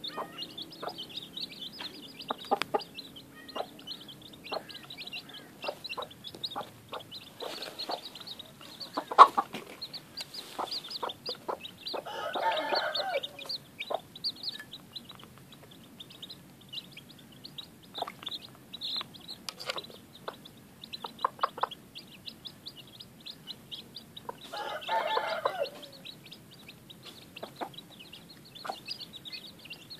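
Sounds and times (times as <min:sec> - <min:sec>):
chicks peeping: 0:00.0 - 0:29.9
hen clucking: 0:00.0 - 0:29.9.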